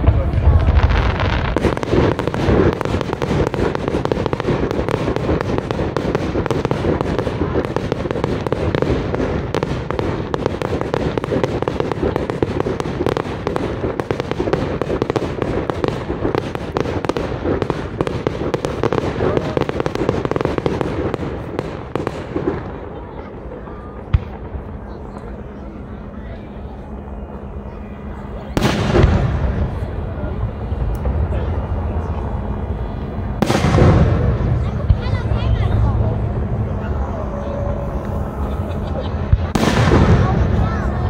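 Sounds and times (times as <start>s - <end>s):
fireworks crackling: 0.0s - 41.0s.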